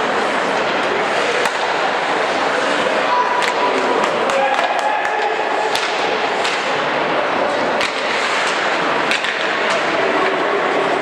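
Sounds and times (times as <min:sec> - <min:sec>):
hockey sticks clacking on puck: 0:00.5 - 0:11.0.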